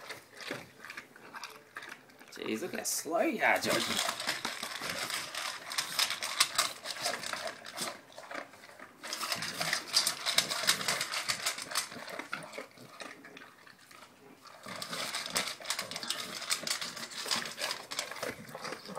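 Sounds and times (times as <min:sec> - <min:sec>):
dog crunching food from bowl: 0:00.0 - 0:18.9.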